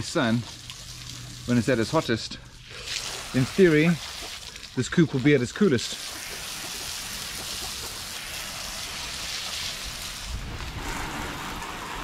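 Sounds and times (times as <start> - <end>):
hose spraying water on ground: 0.0 - 12.0.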